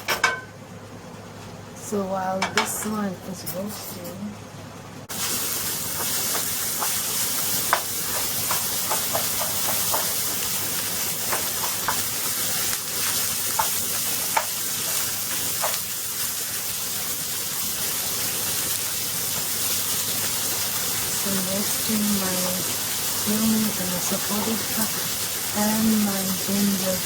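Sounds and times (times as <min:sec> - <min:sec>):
spices sizzling in a pan: 0:05.1 - 0:27.0.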